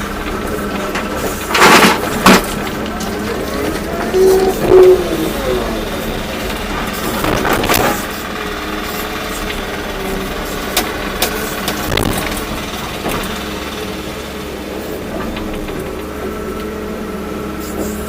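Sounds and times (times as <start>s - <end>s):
excavator diesel engine running: 0.0s - 18.0s
machine knocks and clanks: 0.2s - 14.1s, 15.0s - 16.6s.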